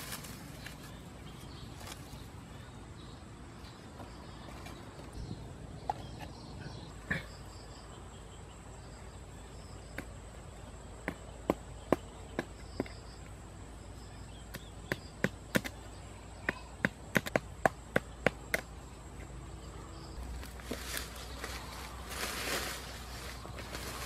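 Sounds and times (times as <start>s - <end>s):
faint insect chirping: 0.0s - 24.0s.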